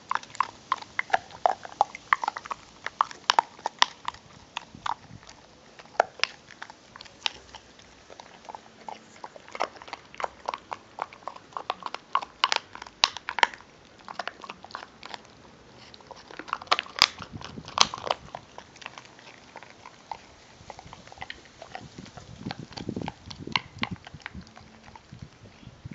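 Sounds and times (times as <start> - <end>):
dog crunching bone: 0.0 - 25.9
dog gnawing: 0.0 - 25.9.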